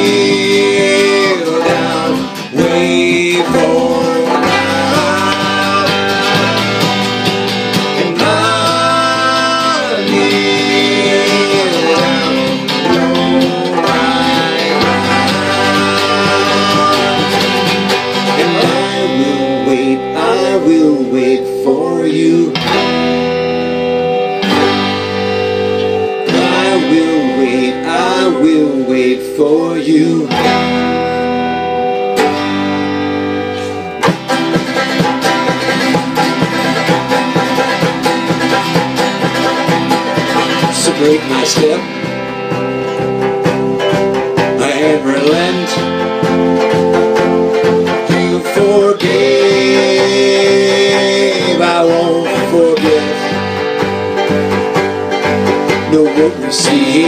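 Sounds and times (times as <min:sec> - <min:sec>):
banjo: 0:00.0 - 0:57.0
bass line: 0:00.0 - 0:57.0
guitar: 0:00.0 - 0:57.0
wavering lead melody: 0:00.0 - 0:57.0.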